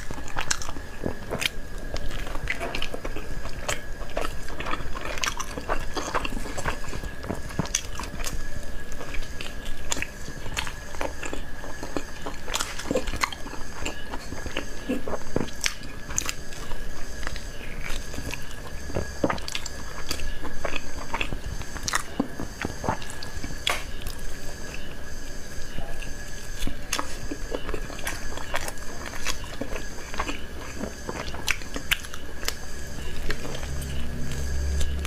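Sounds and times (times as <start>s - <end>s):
wet chewing clicks and crackles: 0.0s - 24.9s, 25.7s - 35.0s
faint high whine: 0.0s - 35.0s.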